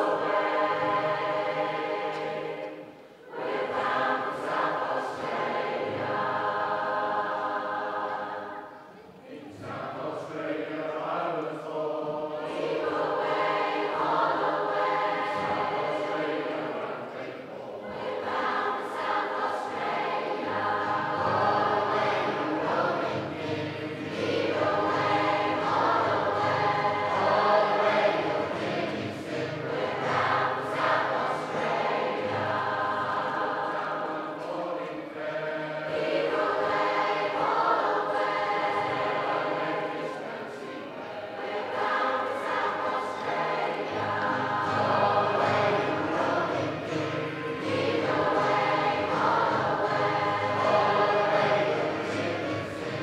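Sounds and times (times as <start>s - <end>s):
choir singing a sea shanty: 0.0s - 53.0s.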